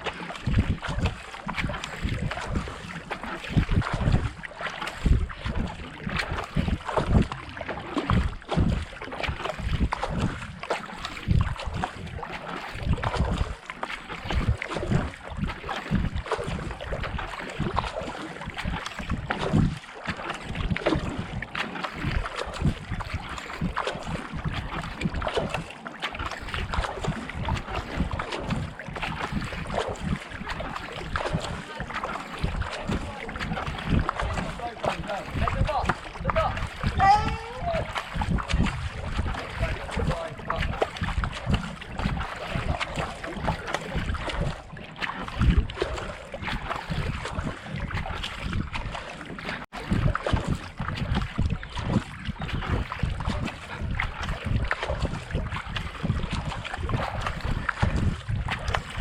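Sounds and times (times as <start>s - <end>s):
kayak paddle strokes splashing: 0.0s - 59.0s
wind rumbling on microphone: 0.0s - 59.0s.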